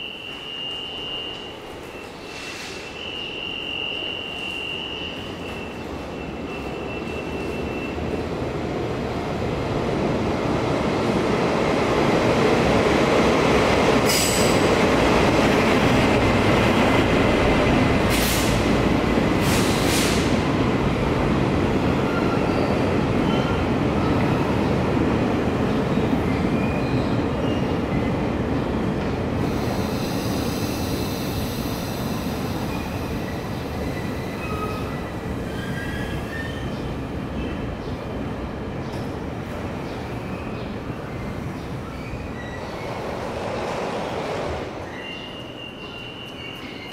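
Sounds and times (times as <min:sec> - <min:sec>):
train wheels rumbling on rail: 0:03.9 - 0:46.9.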